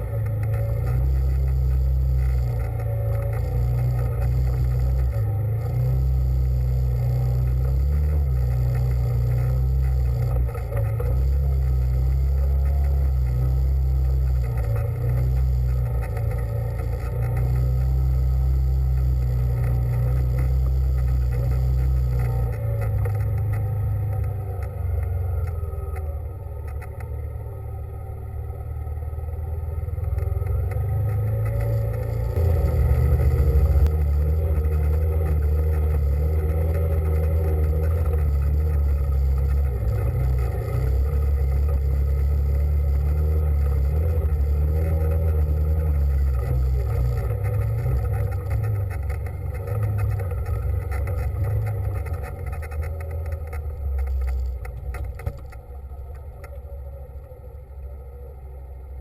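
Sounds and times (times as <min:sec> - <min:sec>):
engine running under load: 0:00.0 - 0:59.0.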